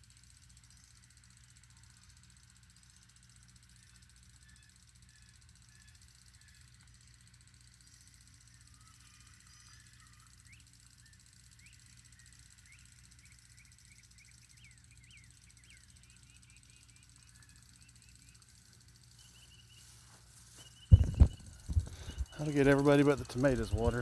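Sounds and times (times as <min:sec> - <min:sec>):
low steady hum: 0:00.0 - 0:24.0
faint bird chirps: 0:00.4 - 0:24.0.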